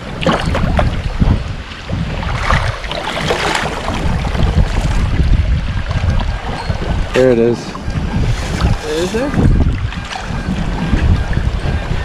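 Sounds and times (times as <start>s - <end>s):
river water splashing: 0.0s - 11.0s
wind noise on microphone: 0.0s - 12.0s.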